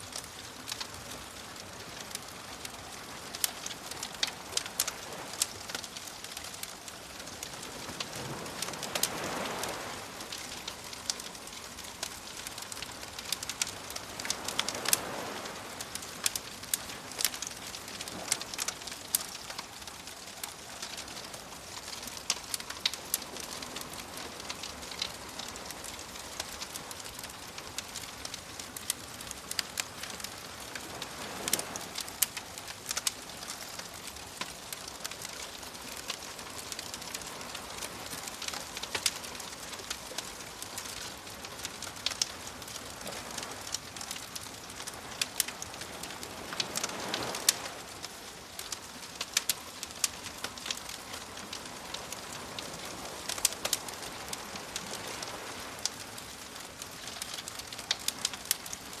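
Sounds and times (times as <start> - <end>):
waves washing in: 0.0 - 57.2
bonfire crackling and popping: 0.0 - 59.0.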